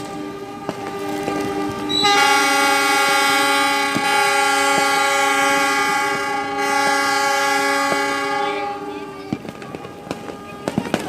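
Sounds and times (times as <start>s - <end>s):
locomotive air horns chord: 0.0s - 11.0s.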